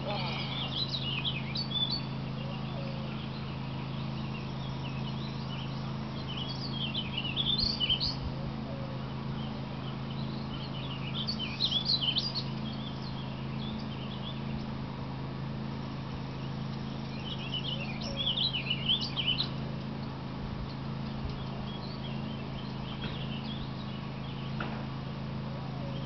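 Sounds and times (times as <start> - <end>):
songbird chirping: 0.0 - 14.9, 15.7 - 26.0.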